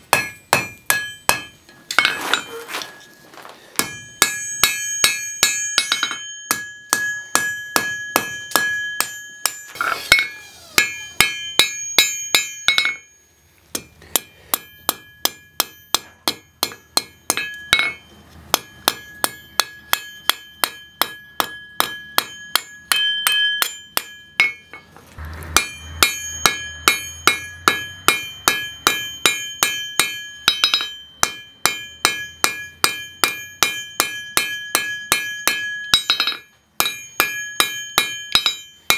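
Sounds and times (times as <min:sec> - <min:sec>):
hammer striking on anvil: 0:00.1 - 0:02.6, 0:03.8 - 0:13.1, 0:13.7 - 0:38.9
anvil ringing: 0:00.1 - 0:38.9.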